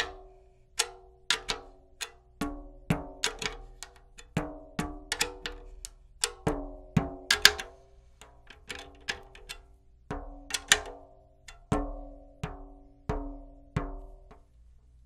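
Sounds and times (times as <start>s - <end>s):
tom drum being tapped: 0.0s - 14.4s.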